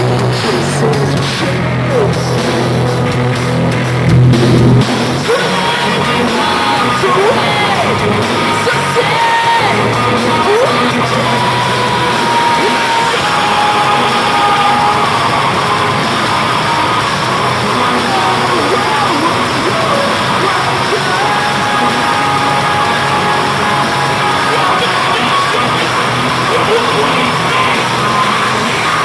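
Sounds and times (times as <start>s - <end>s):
metal band playing: 0.0s - 29.0s
vocalist shouting: 5.2s - 29.0s.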